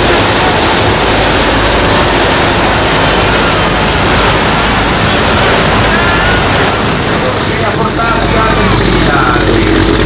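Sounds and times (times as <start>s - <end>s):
tractor engine at full power: 0.0s - 10.0s.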